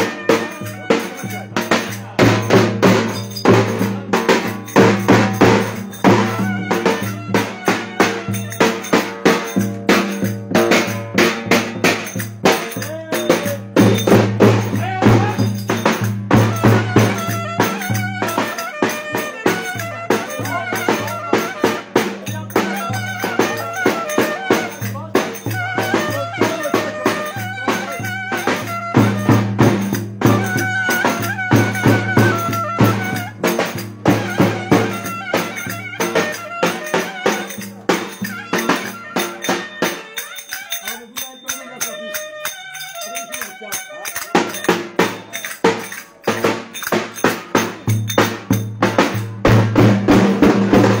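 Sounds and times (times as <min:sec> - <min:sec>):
voices: 0:00.0 - 0:51.0.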